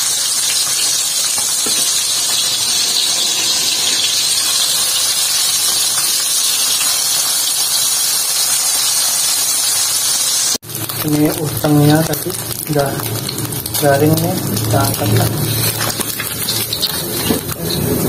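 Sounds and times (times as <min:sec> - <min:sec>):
fish deep-frying in bubbling oil: 0:00.0 - 0:18.0.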